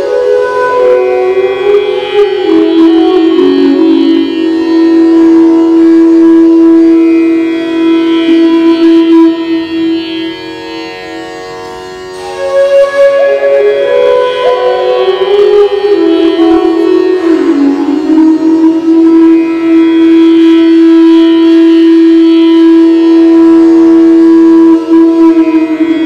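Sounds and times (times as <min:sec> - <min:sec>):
bamboo flute melody: 0:00.0 - 0:10.7, 0:12.1 - 0:26.0.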